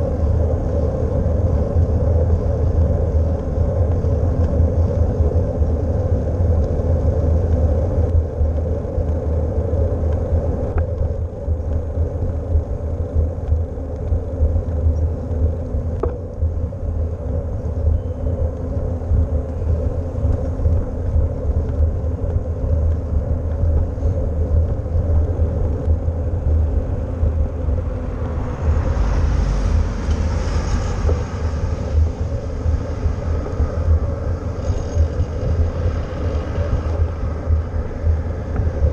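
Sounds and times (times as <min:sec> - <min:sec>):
bicycle tyres on pavement: 0:00.0 - 0:38.9
wind buffeting microphone: 0:00.0 - 0:38.9.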